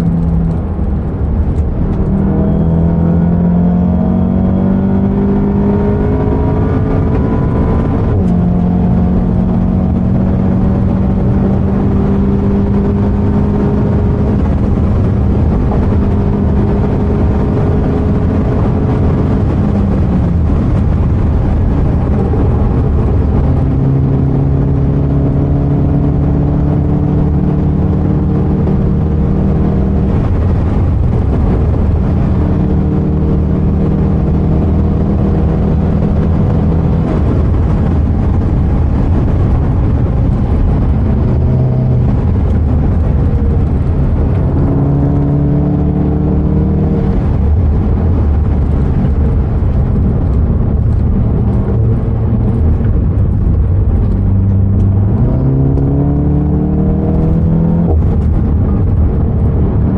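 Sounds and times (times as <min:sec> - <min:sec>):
car engine revving: 0:00.0 - 0:59.9
road and tyre noise: 0:00.0 - 0:59.9.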